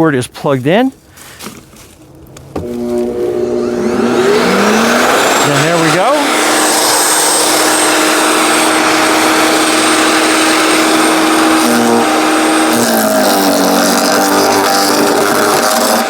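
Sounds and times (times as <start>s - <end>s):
wood chipper motor whine: 2.4s - 16.0s.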